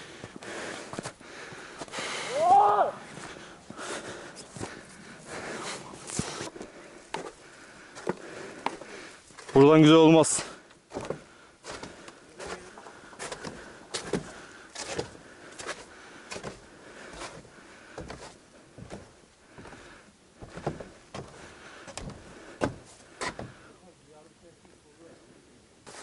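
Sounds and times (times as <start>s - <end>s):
footsteps on a trail: 0.0s - 23.7s.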